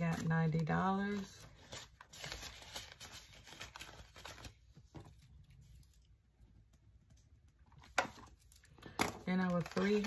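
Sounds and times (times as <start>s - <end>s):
paper rustling: 0.0s - 6.1s, 7.8s - 10.0s.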